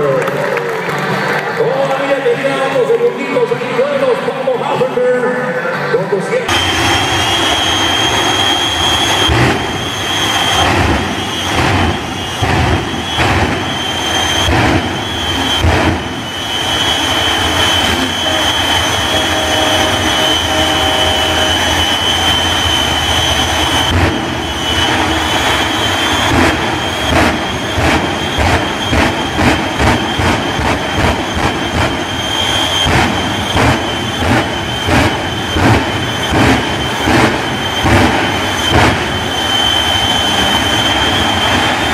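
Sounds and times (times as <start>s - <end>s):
jet engine whine and roar: 0.0s - 41.9s.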